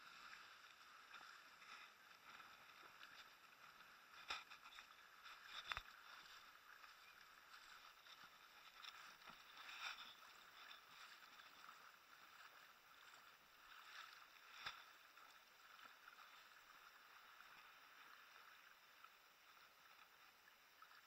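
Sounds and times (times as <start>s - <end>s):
seawater sloshing and lapping: 0.0s - 21.0s.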